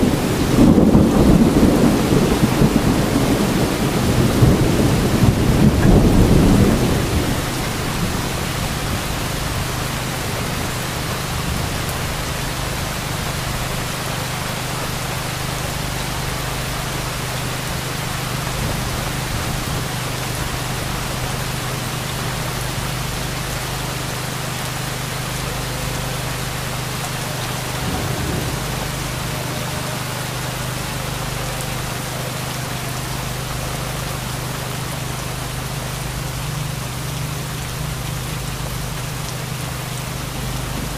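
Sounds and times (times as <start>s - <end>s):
low thunder rumble: 0.0s - 24.0s, 25.0s - 35.0s, 39.6s - 40.9s
heavy rain falling: 0.0s - 40.9s.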